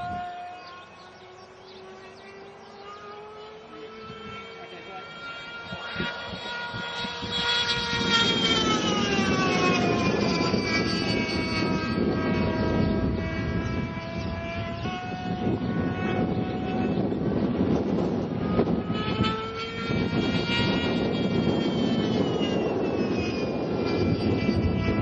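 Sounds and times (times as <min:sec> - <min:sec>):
model jet flying past whining: 0:00.0 - 0:25.0.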